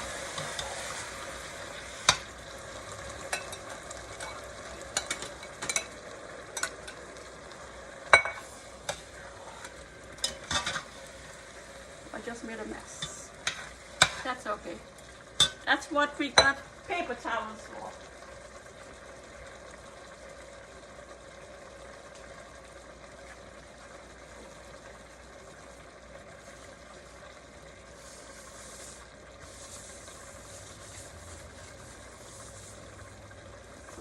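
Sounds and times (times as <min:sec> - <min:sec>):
chicken sizzling in a pot: 0:00.0 - 0:34.0.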